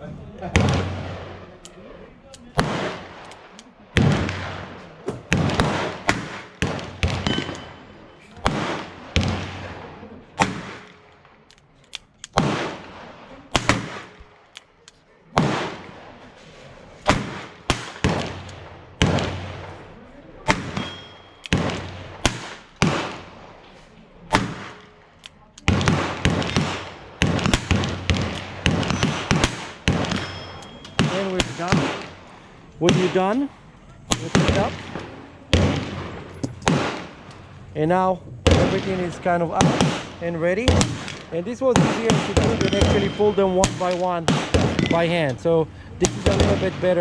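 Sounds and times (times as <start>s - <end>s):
gunshots: 0.5s - 11.5s, 12.2s - 14.6s, 15.3s - 16.4s, 17.0s - 33.5s, 34.1s - 37.8s, 38.4s - 47.0s.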